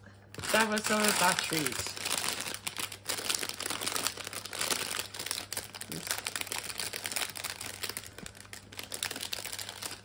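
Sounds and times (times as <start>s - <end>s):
plastic bag crinkling: 0.3s - 10.0s.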